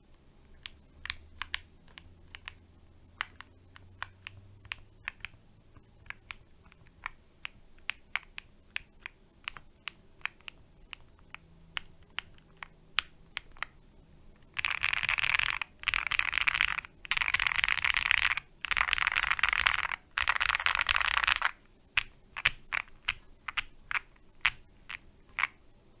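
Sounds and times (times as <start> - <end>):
mechanical keyboard typing: 0.5 - 2.6, 3.2 - 13.8, 14.4 - 25.6.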